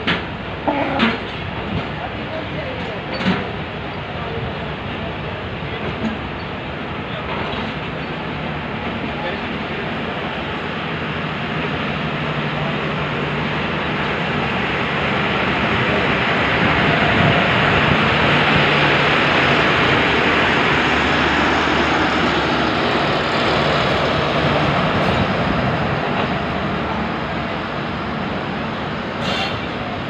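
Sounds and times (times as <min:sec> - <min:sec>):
train wheels rushing on rails: 0:00.0 - 0:30.0.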